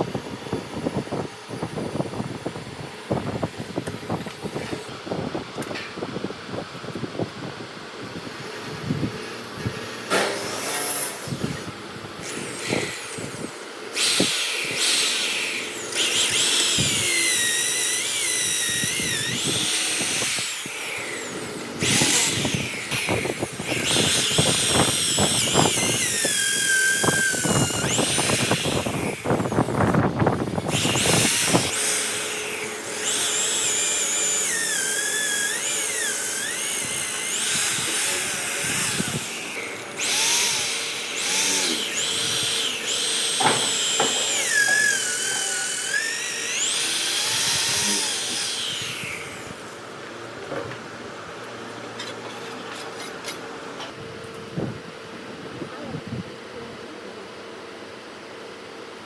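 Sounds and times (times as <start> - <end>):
power tool motor whine: 0.0 - 54.8.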